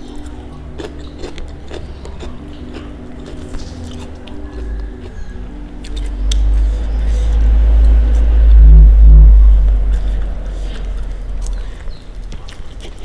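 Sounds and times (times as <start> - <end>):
faint low tones: 0.0 - 11.8
person chewing crunchy food: 0.0 - 13.0.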